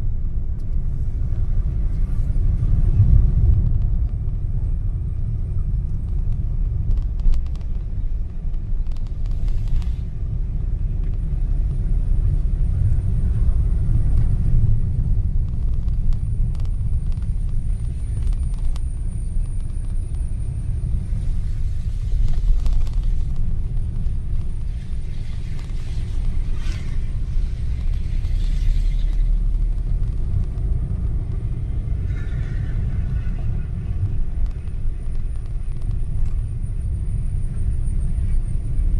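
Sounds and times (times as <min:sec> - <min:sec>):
road and wind noise: 0:00.0 - 0:38.9
vehicle low rumble: 0:00.0 - 0:38.9.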